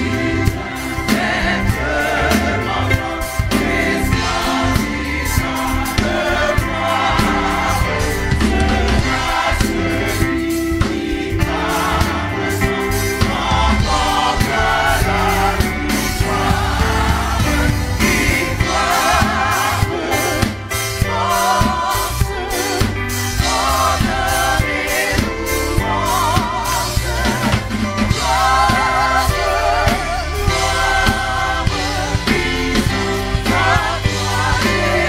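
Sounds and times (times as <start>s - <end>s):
bass and drum kit backing: 0.0s - 35.0s
choir singing a hymn: 0.0s - 35.0s.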